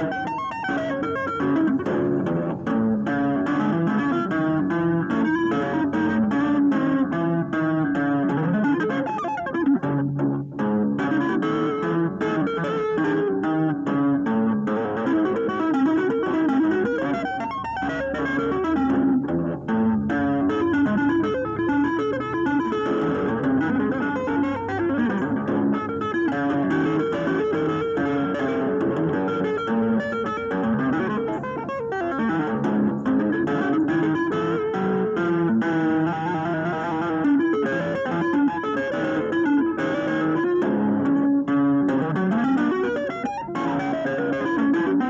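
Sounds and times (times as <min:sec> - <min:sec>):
electric guitar tapping fast runs: 0:00.0 - 0:45.0.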